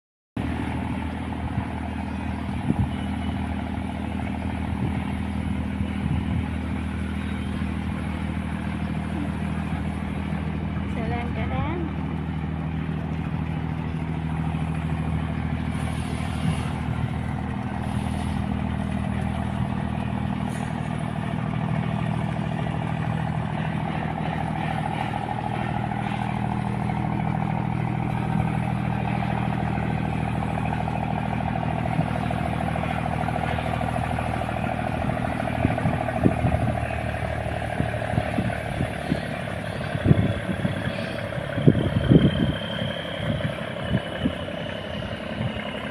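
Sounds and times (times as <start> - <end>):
diesel engine droning: 0.4 - 45.9
engine whine: 0.4 - 45.9.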